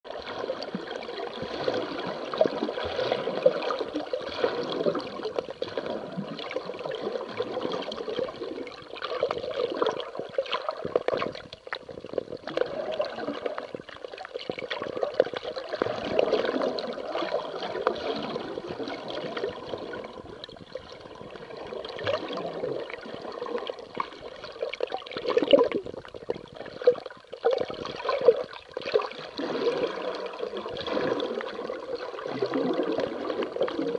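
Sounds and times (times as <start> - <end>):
water sloshing and gurgling: 0.0 - 33.9
small clicks underwater: 0.1 - 33.9.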